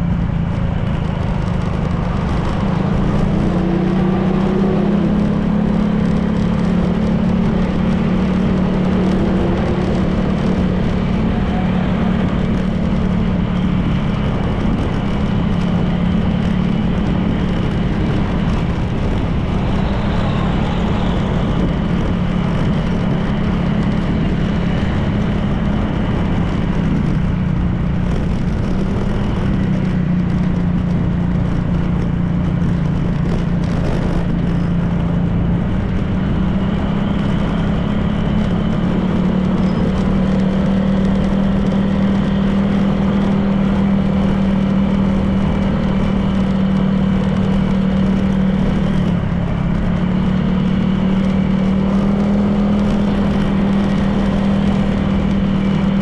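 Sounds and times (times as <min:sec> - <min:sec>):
scooter engine running: 0:00.0 - 0:56.0
wind and road noise: 0:00.0 - 0:56.0.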